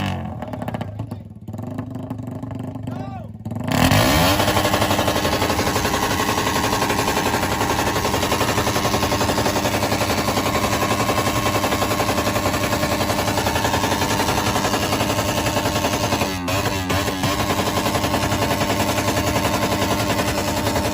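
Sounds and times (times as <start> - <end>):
motorcycle engine at high revs: 0.0 - 20.9.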